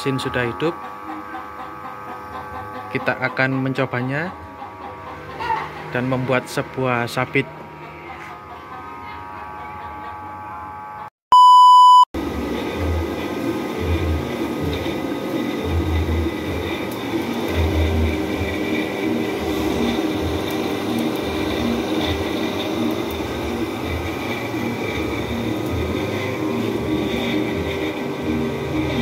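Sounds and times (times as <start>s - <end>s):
electric motor humming: 0.0s - 11.1s, 12.2s - 29.0s.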